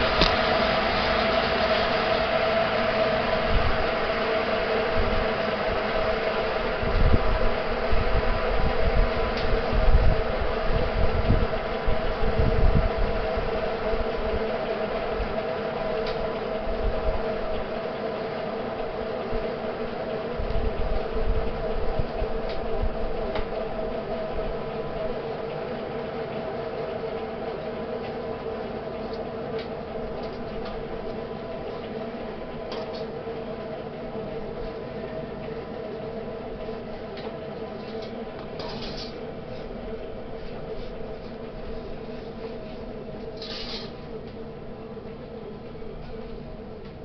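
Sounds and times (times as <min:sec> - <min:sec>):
turbojet engine whine: 0:00.0 - 0:47.0.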